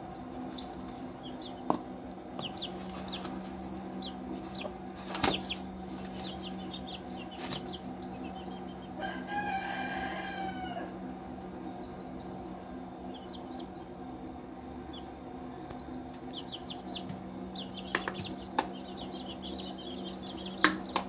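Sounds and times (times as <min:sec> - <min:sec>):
chicks peeping: 0:00.0 - 0:21.0
faint low hum: 0:00.0 - 0:21.0.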